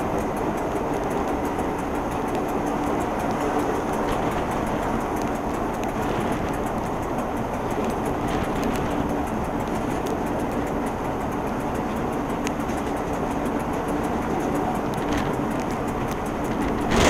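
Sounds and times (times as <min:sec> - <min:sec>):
faint track clicks: 0:00.0 - 0:17.0
train rumble and drone: 0:00.0 - 0:17.0.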